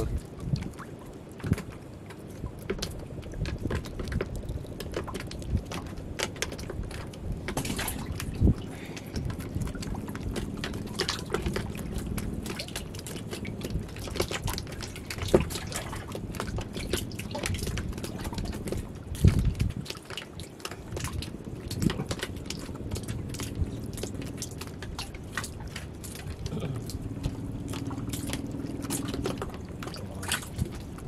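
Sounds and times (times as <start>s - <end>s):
water splashing and dripping: 0.0s - 31.0s.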